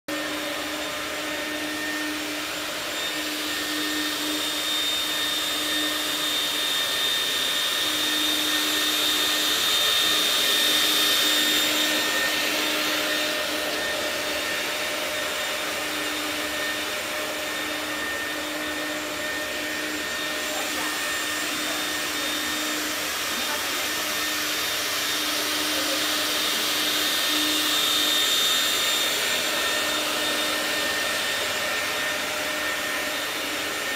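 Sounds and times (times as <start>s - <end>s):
floor scrubber running: 0.1s - 33.9s.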